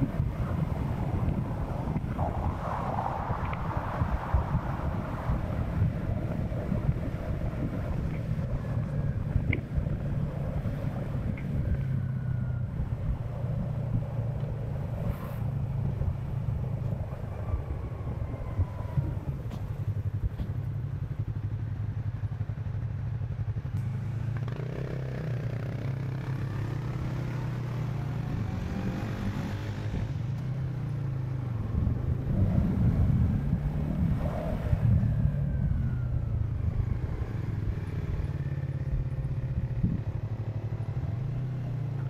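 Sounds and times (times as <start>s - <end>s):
motorcycle engine cruising: 0.0s - 42.0s.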